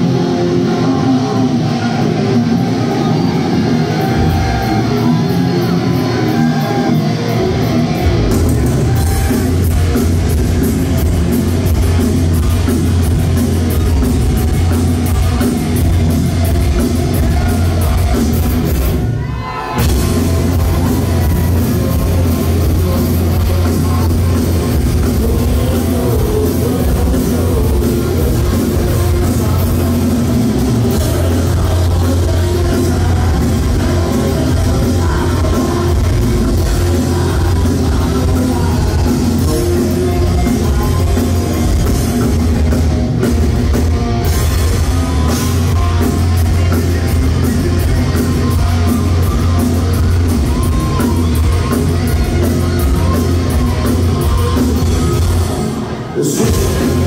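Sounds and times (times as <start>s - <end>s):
distorted electric guitars: 0.0s - 57.0s
drum kit: 0.0s - 57.0s
singer: 0.0s - 57.0s.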